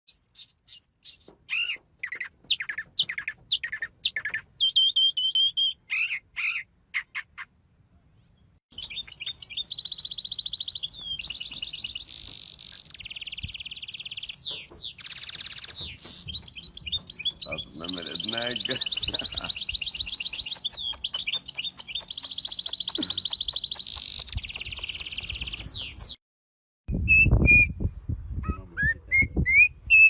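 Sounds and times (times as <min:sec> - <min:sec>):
birds chirping and whistling: 0:00.1 - 0:07.5, 0:08.3 - 0:26.2, 0:27.0 - 0:30.0.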